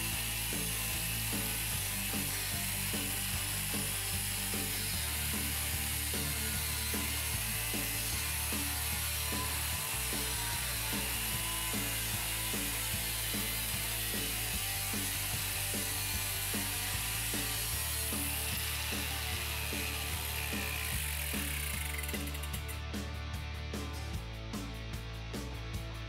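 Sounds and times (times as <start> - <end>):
background music with bass line: 0.0 - 26.0.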